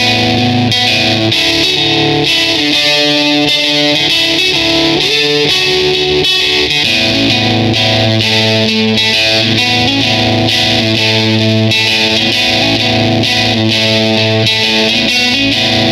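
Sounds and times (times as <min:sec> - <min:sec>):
fuzzed electric guitar notes: 0:00.0 - 0:15.9.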